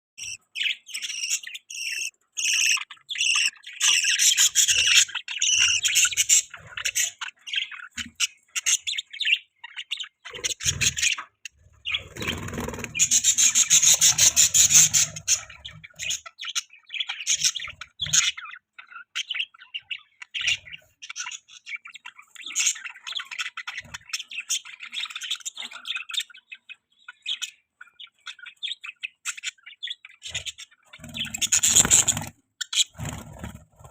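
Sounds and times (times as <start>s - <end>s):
budgies chirping: 0.2s - 33.9s.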